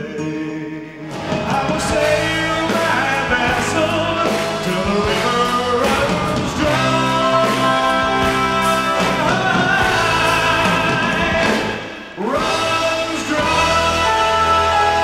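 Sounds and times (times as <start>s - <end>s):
live rock band playing: 0.0s - 15.0s
man singing: 0.0s - 15.0s
slow ballad held notes: 0.0s - 15.0s.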